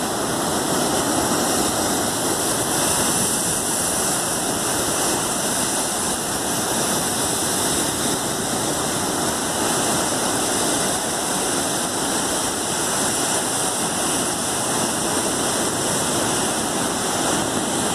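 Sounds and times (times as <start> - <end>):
heavy ocean surf: 0.0 - 17.9.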